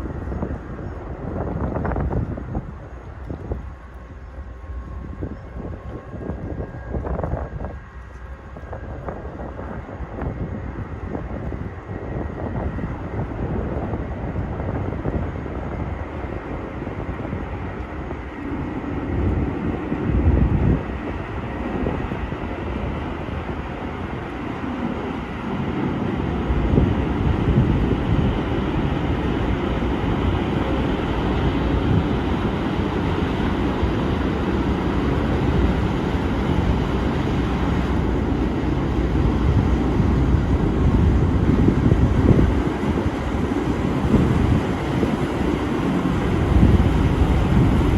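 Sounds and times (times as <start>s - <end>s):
ferry engines rumbling: 0.0s - 47.9s.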